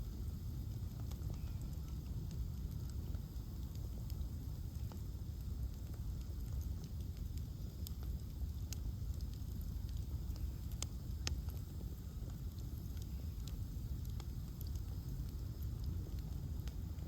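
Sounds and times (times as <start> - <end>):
bonfire crackling and popping: 0.0 - 17.0
low fire rumble: 0.0 - 17.0.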